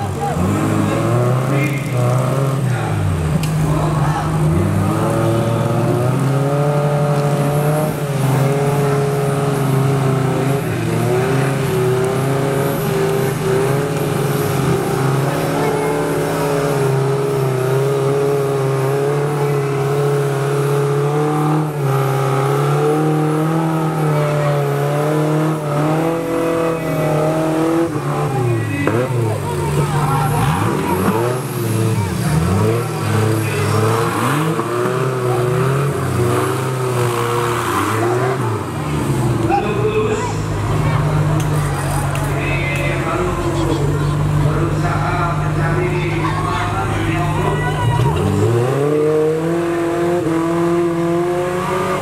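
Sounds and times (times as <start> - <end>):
buggy engine revving hard: 0.0 - 52.0.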